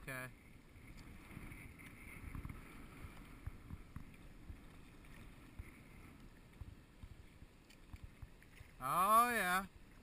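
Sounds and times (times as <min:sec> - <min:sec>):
water splashing against hull: 0:00.0 - 0:10.0
wind buffeting microphone: 0:00.4 - 0:08.6.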